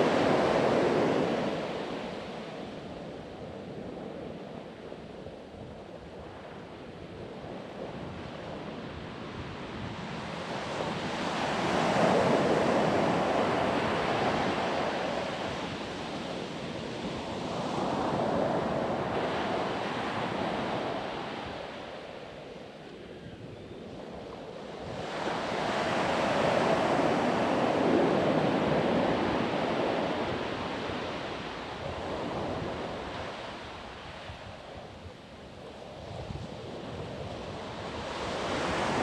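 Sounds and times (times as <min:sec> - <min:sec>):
ocean waves breaking on a beach: 0:00.0 - 0:39.0.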